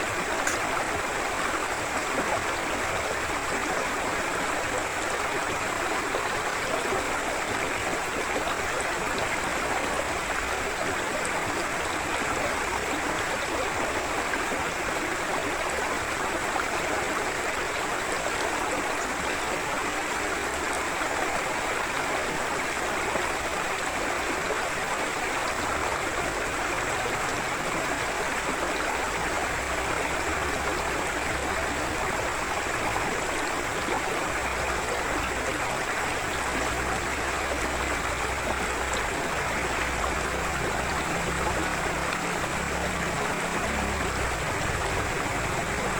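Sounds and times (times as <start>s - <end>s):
stream flowing over stones: 0.0s - 45.9s.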